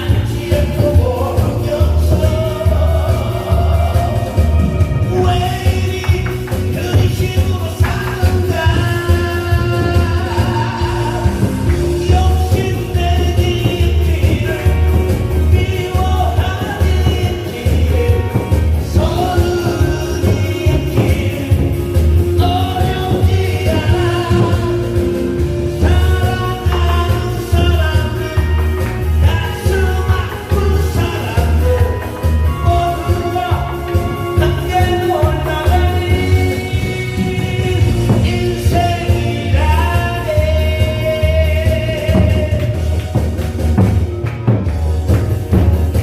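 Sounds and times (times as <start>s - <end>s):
person singing into a microphone: 0.0s - 43.3s
amplified backing track: 0.0s - 46.0s
steady bass beat: 0.0s - 46.0s.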